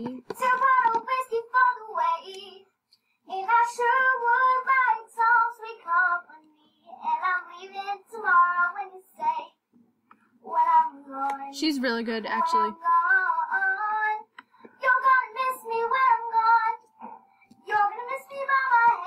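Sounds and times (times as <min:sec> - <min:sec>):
girl singing unaccompanied: 0:00.0 - 0:09.7, 0:10.4 - 0:19.0.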